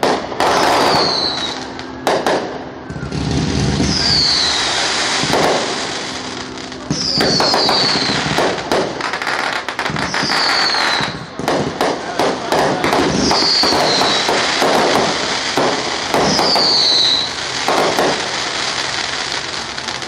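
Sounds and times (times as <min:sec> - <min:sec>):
falling firework whistle: 0:00.0 - 0:20.0
fireworks bangs and crackling: 0:00.0 - 0:20.0.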